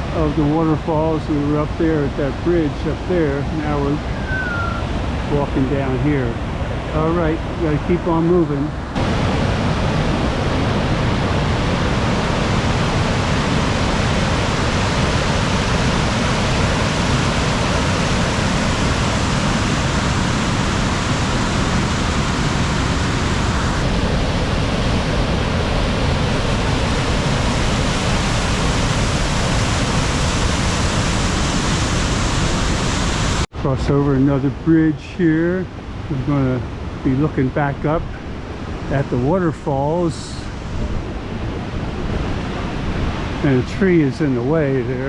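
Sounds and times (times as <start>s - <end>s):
waterfall roaring: 0.0s - 34.2s, 35.8s - 45.0s.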